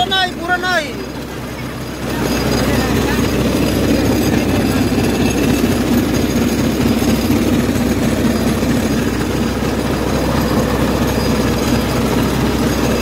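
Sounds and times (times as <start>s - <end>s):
rice huller rattling and humming: 0.0s - 13.0s.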